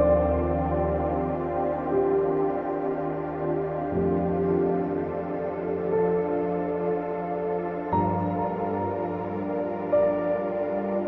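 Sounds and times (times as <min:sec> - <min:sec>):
ambient music soft chords: 0:00.0 - 0:11.0.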